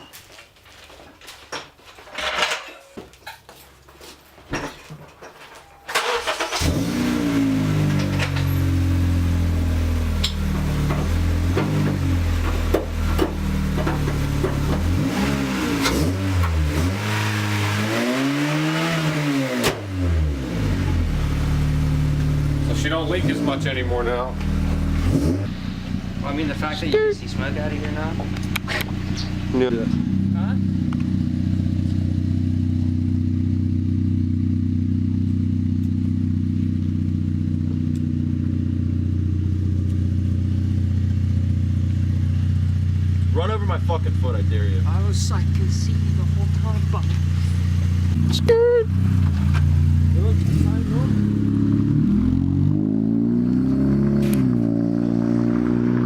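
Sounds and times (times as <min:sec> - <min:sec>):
car engine idling and revving: 0:05.9 - 0:56.0.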